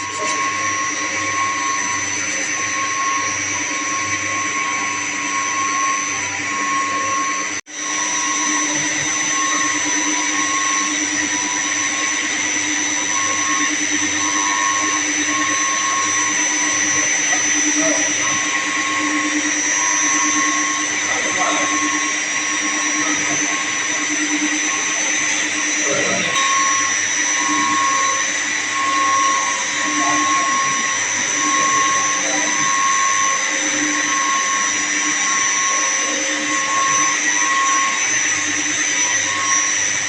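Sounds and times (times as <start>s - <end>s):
pump machinery whirring: 0.0s - 40.0s.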